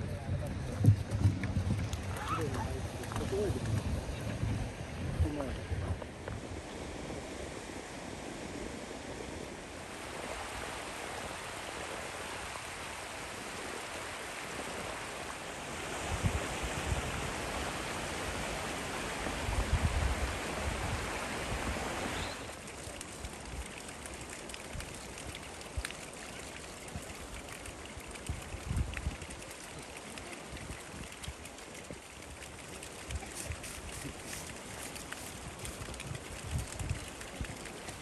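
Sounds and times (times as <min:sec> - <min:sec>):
stream water rushing: 0:01.4 - 0:38.0.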